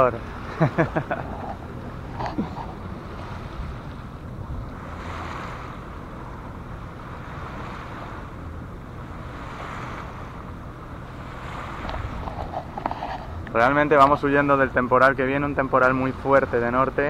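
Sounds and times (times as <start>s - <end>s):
boat engine running: 0.0s - 17.0s
water swishing along hull: 0.0s - 17.0s
wind rumbling on microphone: 0.0s - 17.0s.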